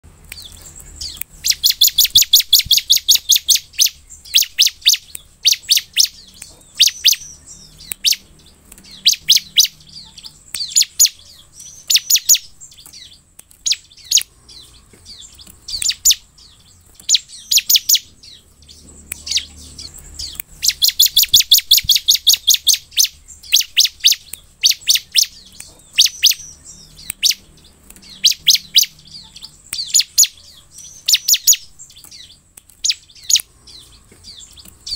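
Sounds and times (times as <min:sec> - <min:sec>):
bird chirping song: 0:00.0 - 0:34.9.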